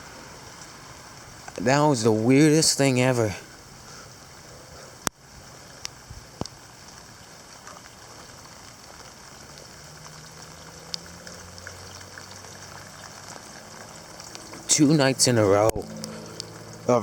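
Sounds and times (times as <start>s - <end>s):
raindrops tapping close by: 0.0s - 17.0s
steady rain falling: 0.0s - 17.0s.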